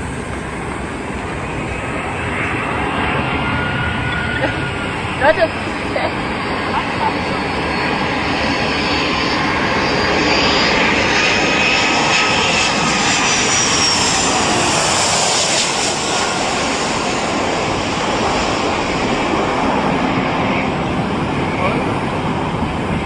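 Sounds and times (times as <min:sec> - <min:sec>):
airplane engines running: 0:00.0 - 0:23.0.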